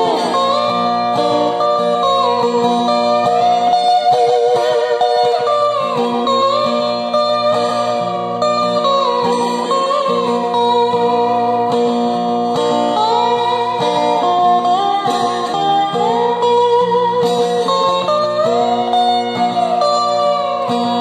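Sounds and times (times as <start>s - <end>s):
slide steel guitar melody: 0.0s - 21.0s.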